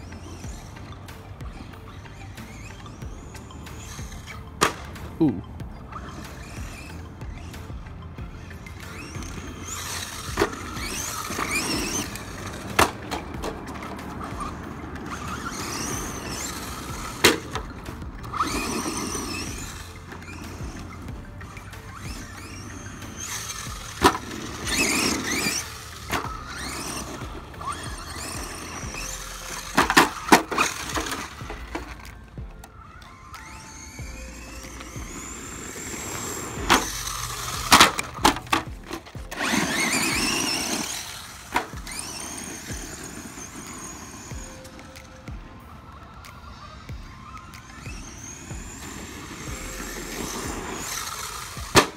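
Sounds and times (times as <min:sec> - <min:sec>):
toy truck hitting ground: 0:00.0 - 0:45.4, 0:46.2 - 0:51.9
electric motor whining: 0:00.0 - 0:51.9
tyres throwing dirt: 0:00.0 - 0:51.9.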